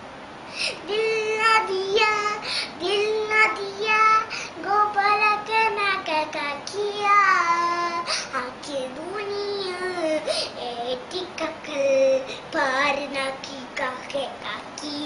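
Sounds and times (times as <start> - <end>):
girl singing unaccompanied: 0.6 - 15.0.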